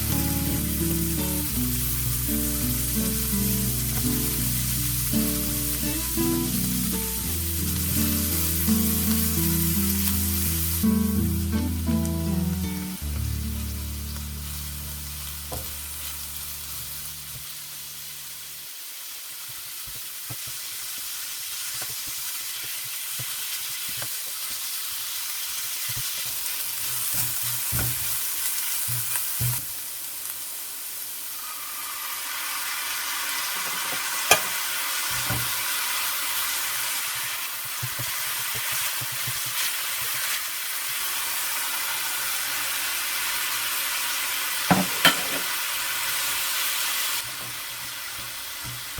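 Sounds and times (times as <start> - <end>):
food sizzling in frying pan: 0.0 - 48.9.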